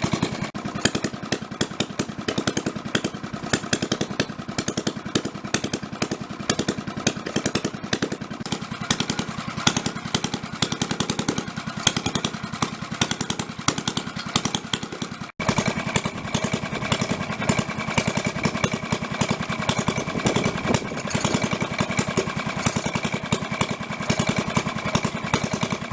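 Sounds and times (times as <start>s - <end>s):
stationary engine running: 0.0s - 25.9s.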